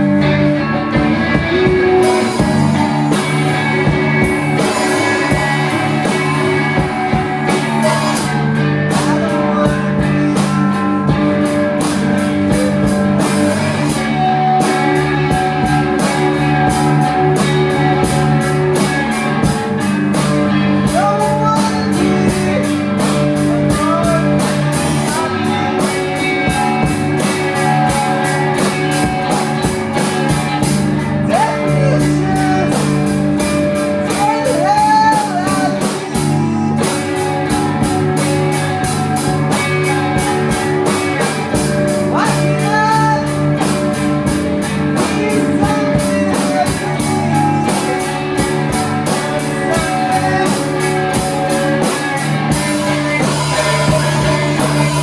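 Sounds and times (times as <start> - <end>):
electric guitar: 0.0 - 55.0
live rock band playing: 0.0 - 55.0
steady drum beat: 0.0 - 55.0.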